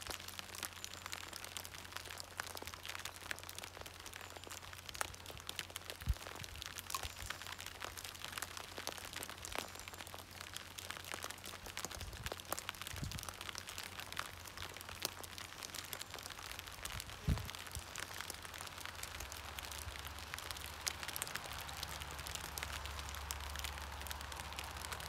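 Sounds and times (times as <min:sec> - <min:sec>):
light rain on plastic sheeting: 0:00.0 - 0:25.0.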